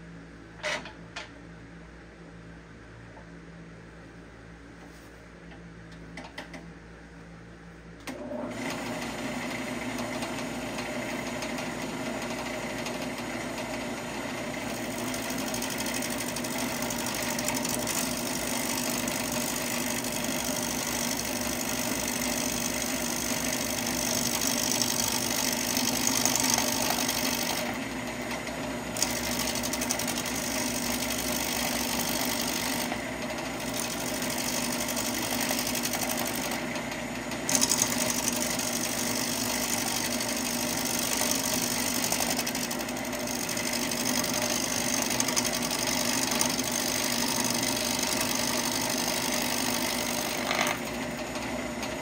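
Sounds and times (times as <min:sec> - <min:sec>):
wood lathe humming: 0:08.4 - 0:52.0
bowl gouge cutting spinning wood: 0:08.7 - 0:52.0.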